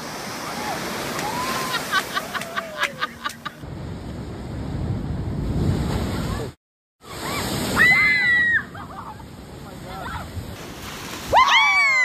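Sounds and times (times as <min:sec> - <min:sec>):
surf breaking on a beach: 0:00.0 - 0:12.0.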